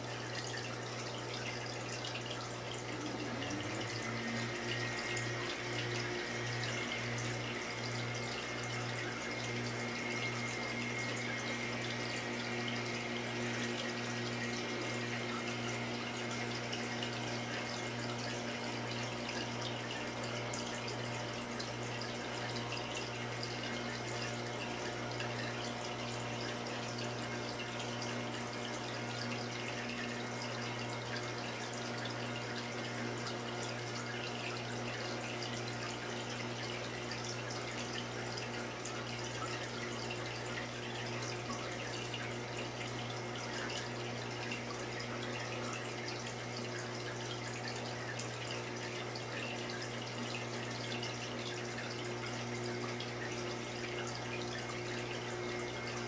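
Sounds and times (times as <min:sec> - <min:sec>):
pump humming: 0:00.0 - 0:56.0.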